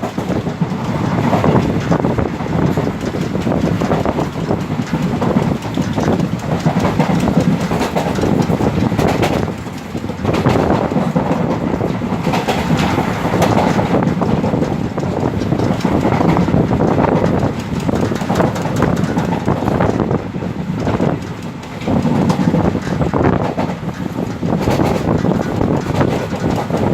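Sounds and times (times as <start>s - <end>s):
train rumble: 0.0s - 26.9s
train wheels clacking over rail joints: 0.0s - 26.9s.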